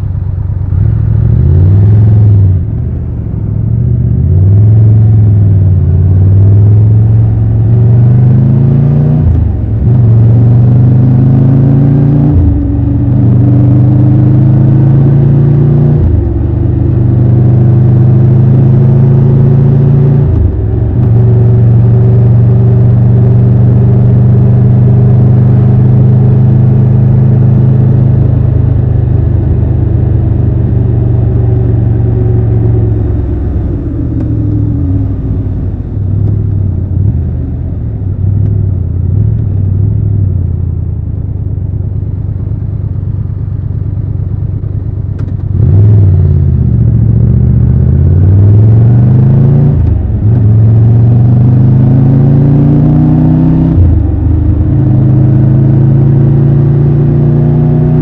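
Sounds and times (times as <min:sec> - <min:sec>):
motorcycle engine revving: 0:00.6 - 0:58.0.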